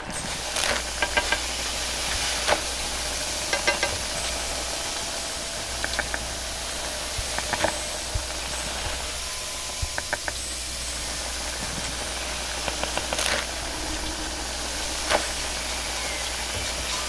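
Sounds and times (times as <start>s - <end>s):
food sizzling in a wok: 0.0s - 17.0s
gas burner hissing: 0.0s - 17.0s.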